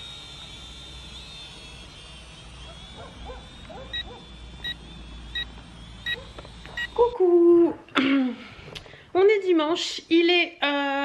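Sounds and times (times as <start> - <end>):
drone motors whining: 0.0 - 8.9.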